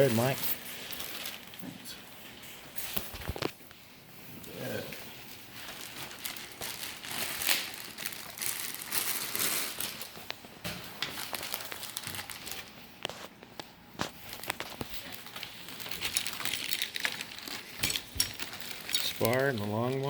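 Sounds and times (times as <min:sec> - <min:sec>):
packaging crinkling and rustling: 0:00.0 - 0:03.7, 0:04.6 - 0:20.0.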